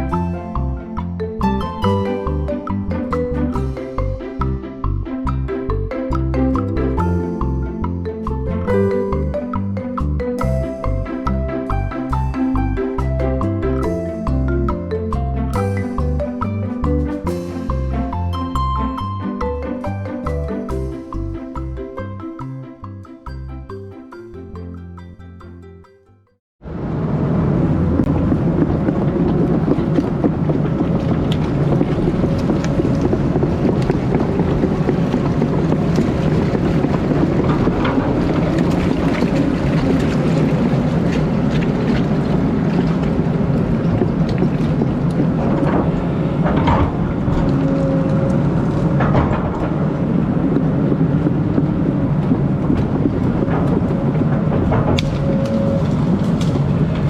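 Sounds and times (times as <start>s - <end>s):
excavator diesel engine running: 0.0s - 24.6s, 26.8s - 57.0s.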